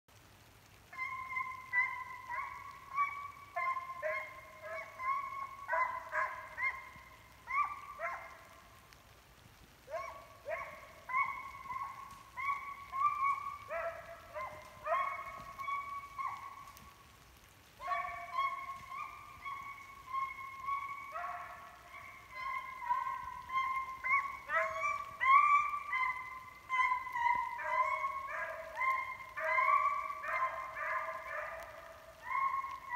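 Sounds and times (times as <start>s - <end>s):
hound baying: 0.9s - 8.7s, 9.8s - 17.2s, 17.8s - 32.9s.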